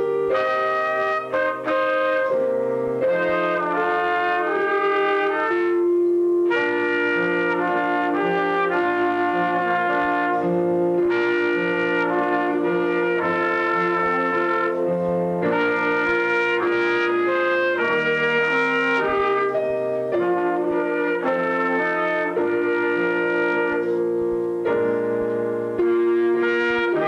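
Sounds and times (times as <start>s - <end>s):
trumpet duet: 0.0s - 27.0s.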